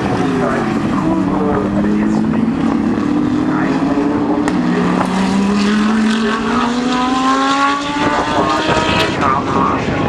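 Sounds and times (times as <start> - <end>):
race car engines accelerating: 0.0 - 10.0.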